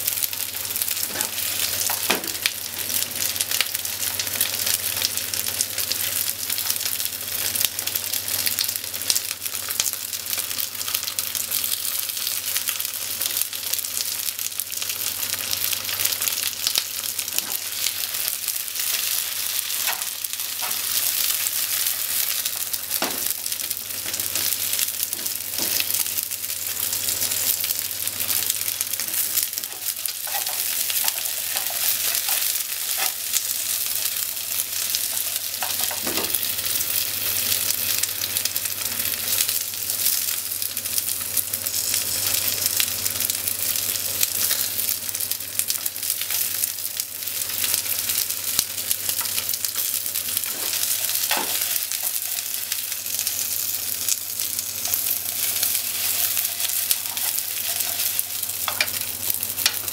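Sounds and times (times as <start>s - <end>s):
tofu sizzling in oil: 0.0s - 59.9s.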